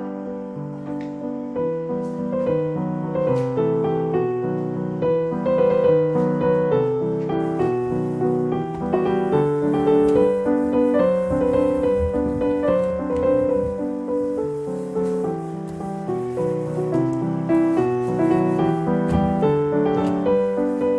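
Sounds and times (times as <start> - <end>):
gentle piano melody: 0.0 - 20.9.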